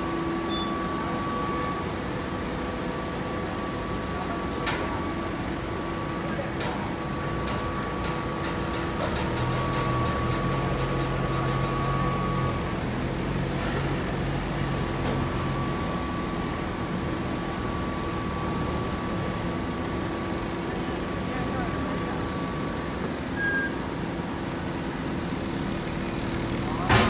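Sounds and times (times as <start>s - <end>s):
hydraulic baler machine hum: 0.0s - 27.0s.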